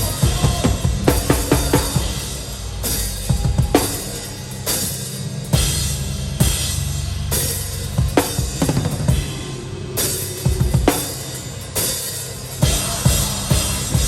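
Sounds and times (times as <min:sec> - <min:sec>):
crash cymbals struck: 0:00.0 - 0:14.0
hardcore band playing: 0:00.0 - 0:14.0.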